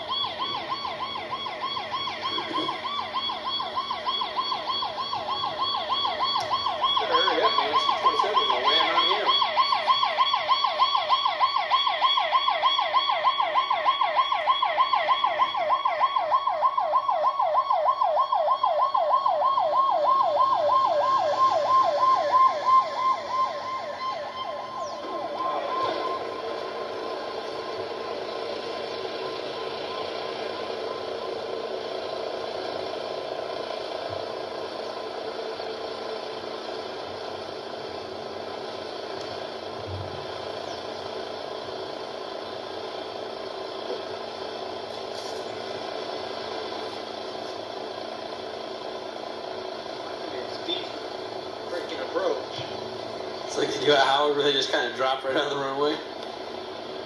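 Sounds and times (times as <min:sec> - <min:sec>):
low steady engine noise: 0:00.0 - 0:57.0
turboprop engines whining: 0:00.0 - 0:57.0.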